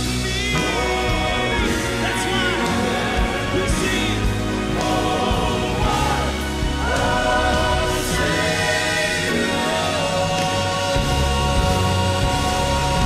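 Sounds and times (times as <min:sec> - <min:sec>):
live band playing: 0:00.0 - 0:13.0
male quartet singing in harmony: 0:00.0 - 0:13.0.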